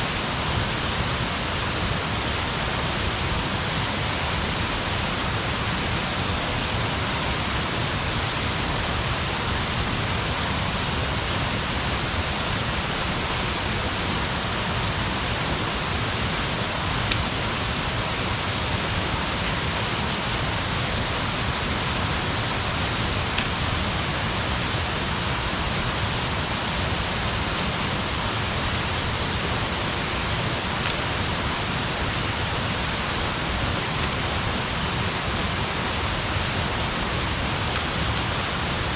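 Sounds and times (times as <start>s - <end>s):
campfire hissing and crackling: 0.0s - 38.9s.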